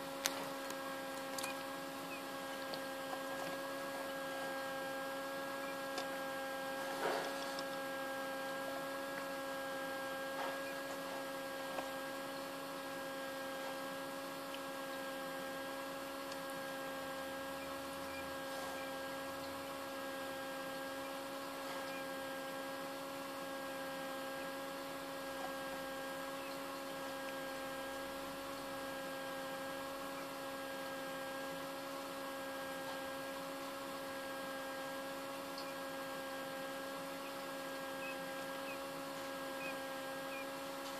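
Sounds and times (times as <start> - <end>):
incubator fan motor hum: 0.0 - 40.9.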